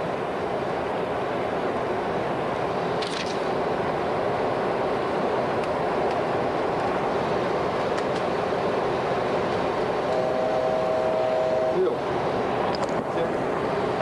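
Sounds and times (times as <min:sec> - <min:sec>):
airflow rushing over aircraft: 0:00.0 - 0:14.0
jet engines humming: 0:00.0 - 0:14.0.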